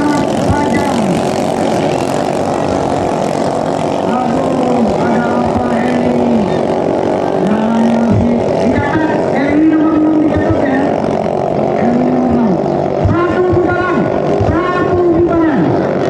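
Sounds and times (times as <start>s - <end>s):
boat engine at high revs: 0.0s - 16.0s.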